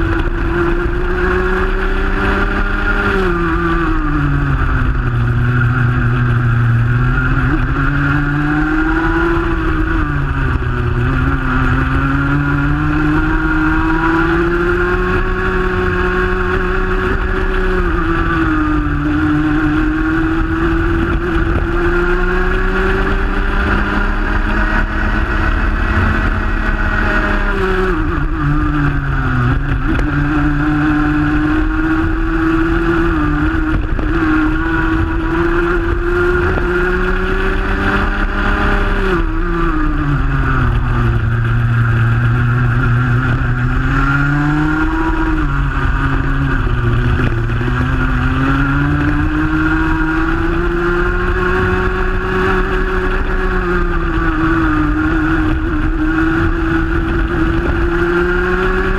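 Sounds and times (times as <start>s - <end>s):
kart engine racing: 0.0s - 58.9s.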